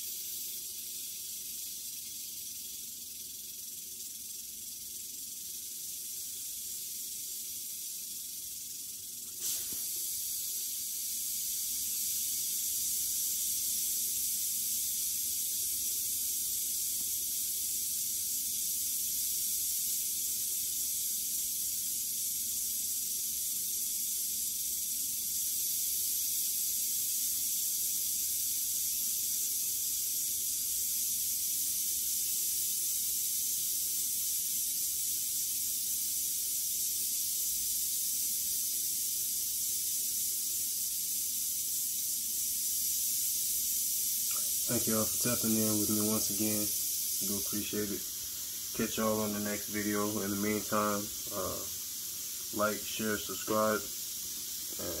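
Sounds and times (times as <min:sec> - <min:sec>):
rattlesnake rattling: 0:00.0 - 0:55.0.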